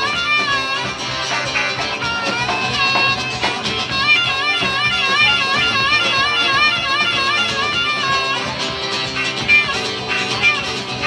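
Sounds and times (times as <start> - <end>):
drum kit: 0.0 - 11.0
strummed acoustic guitar: 0.0 - 11.0
warbling harmonica lead: 0.0 - 11.0.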